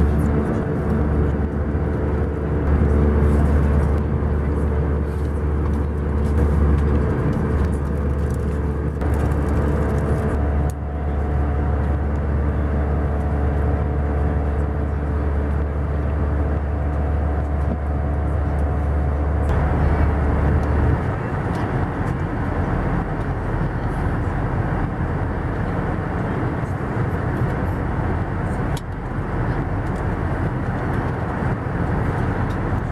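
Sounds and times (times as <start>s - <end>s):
airplane cabin engine drone: 0.0s - 32.9s
low hum: 0.0s - 32.9s.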